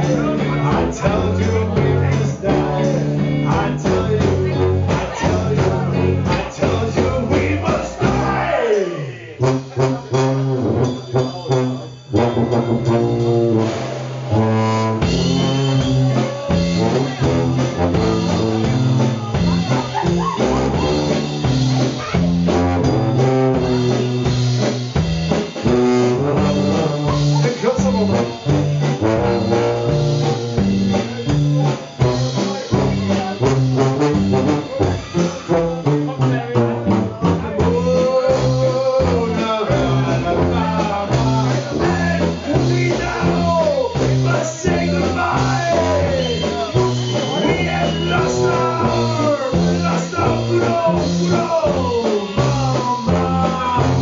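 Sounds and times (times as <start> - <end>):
tuba playing bass melody: 0.0 - 8.5, 9.4 - 54.0
drum kit beat: 0.0 - 8.7, 9.4 - 54.0.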